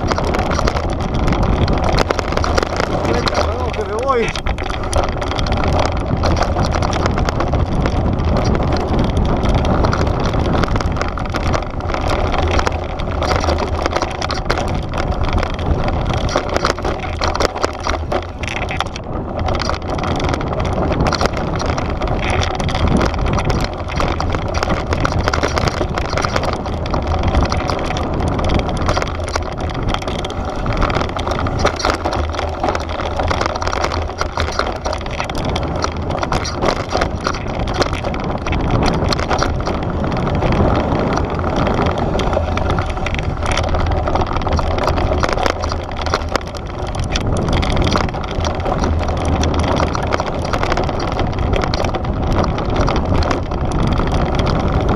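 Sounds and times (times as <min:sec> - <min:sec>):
bike rattling over bumps: 0:00.0 - 0:54.9
bike tyres rolling on dirt: 0:00.0 - 0:54.9
wind rumble on microphone: 0:00.0 - 0:54.9.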